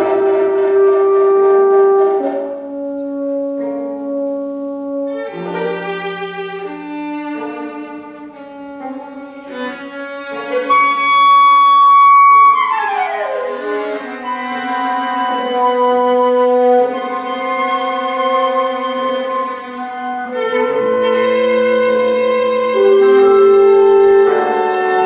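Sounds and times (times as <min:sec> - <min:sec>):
chamber ensemble sustained notes: 0:00.0 - 0:25.0.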